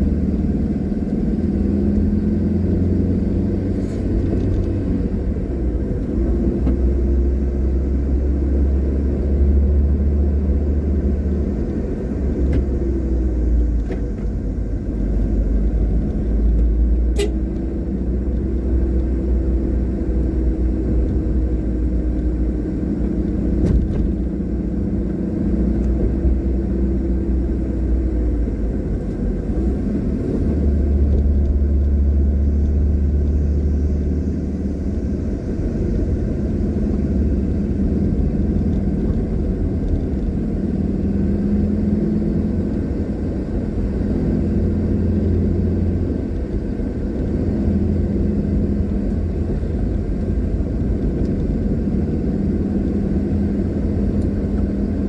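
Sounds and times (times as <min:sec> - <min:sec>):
car engine hum: 0:00.0 - 0:55.0
car road noise rumble: 0:00.0 - 0:55.0.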